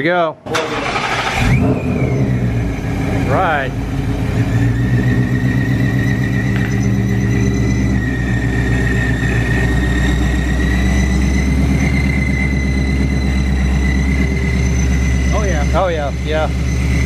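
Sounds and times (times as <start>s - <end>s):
car engine idling: 0.4s - 17.0s
supercharger whine: 0.4s - 17.0s.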